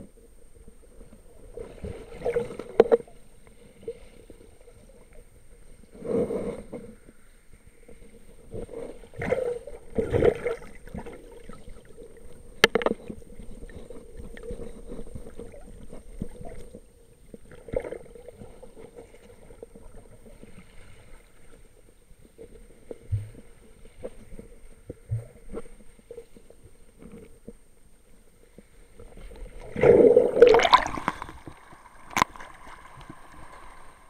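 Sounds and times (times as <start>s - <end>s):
faint steady hum: 0.0s - 34.0s
underwater water sloshing: 0.9s - 27.7s, 28.4s - 34.0s.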